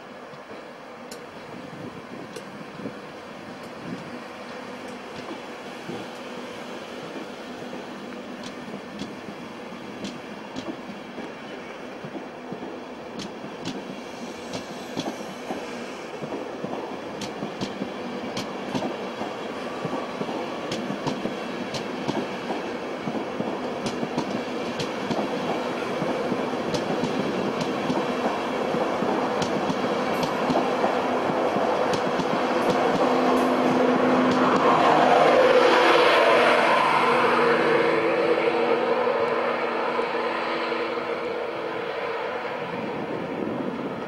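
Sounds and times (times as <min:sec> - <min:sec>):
train coaches rumbling past: 0:00.0 - 0:44.0.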